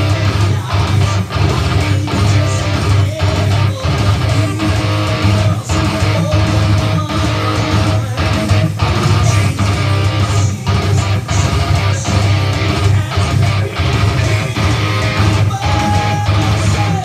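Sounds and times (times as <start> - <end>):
electric guitar playing: 0.0 - 17.0.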